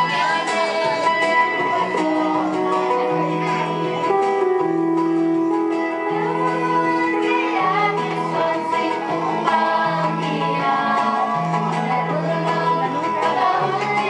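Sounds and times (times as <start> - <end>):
group singing: 0.0 - 4.1, 6.1 - 14.0
instrumental accompaniment: 0.0 - 14.0.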